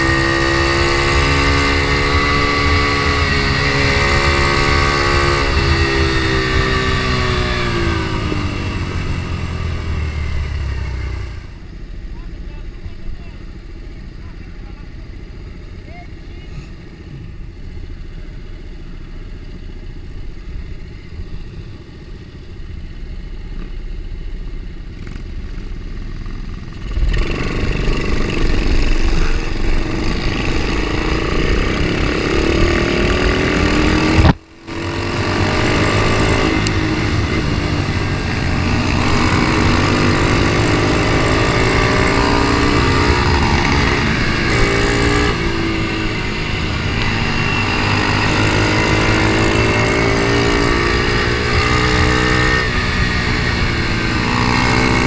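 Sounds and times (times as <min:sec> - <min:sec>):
small motorcycle engines revving: 0:00.0 - 0:24.0, 0:24.6 - 0:55.0.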